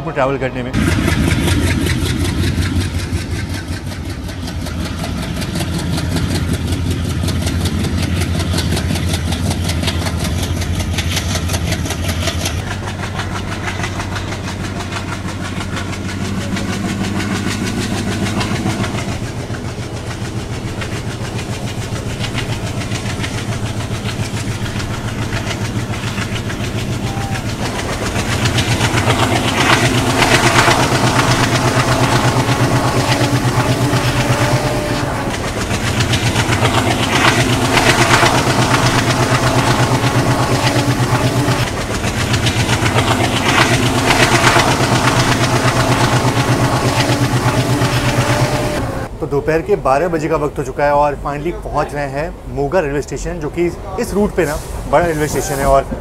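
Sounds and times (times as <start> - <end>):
diesel locomotive engine droning: 0.0 - 56.0
train running on rails: 0.0 - 56.0.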